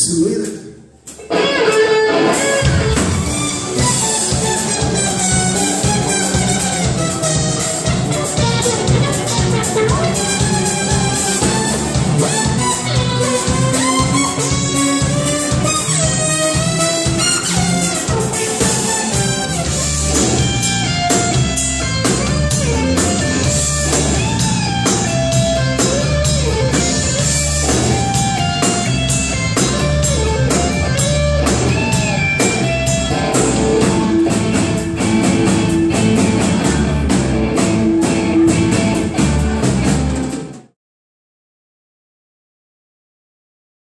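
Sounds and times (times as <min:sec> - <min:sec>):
bass guitar: 0:00.0 - 0:40.7
electric guitar lead line: 0:00.0 - 0:40.7
drum kit: 0:00.0 - 0:40.8.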